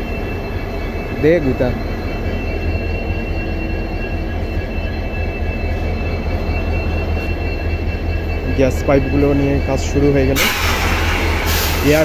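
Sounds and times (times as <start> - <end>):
diesel locomotive engine rumbling: 0.0 - 12.0
thin high whine: 0.0 - 12.0.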